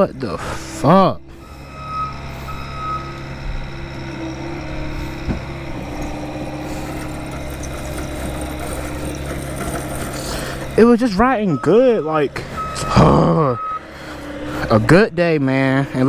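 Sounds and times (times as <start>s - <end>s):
mini bike engine idling: 0.0s - 16.0s.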